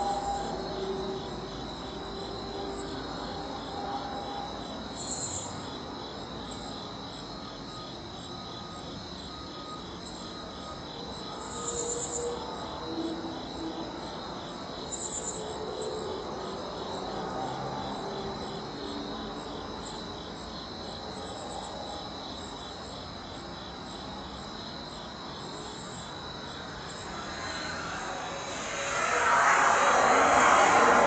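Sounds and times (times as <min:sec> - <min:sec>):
insect chirps: 0:00.0 - 0:19.2, 0:19.8 - 0:31.0
crickets trilling: 0:00.0 - 0:31.0.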